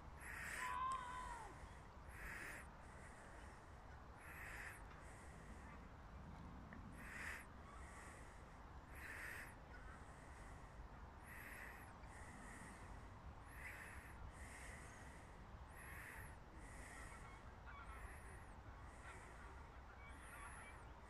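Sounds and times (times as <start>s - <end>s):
crow cawing: 0.2s - 3.5s, 4.2s - 5.7s, 7.0s - 10.6s, 11.2s - 12.9s, 13.5s - 21.0s.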